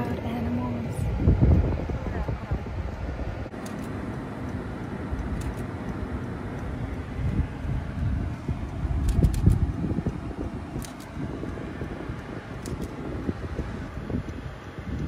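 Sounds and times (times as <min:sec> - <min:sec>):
engine and tyre rumble: 0:00.0 - 0:15.0
wind buffeting microphone: 0:00.0 - 0:15.0.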